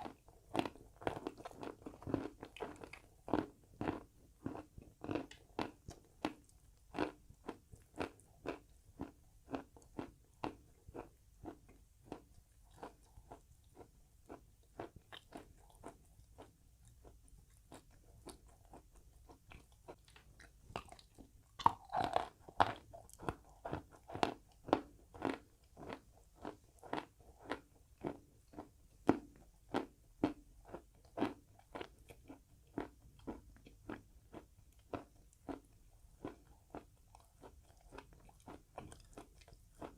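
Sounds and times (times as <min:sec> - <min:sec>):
chalk crunching being chewed: 0:00.0 - 0:39.9.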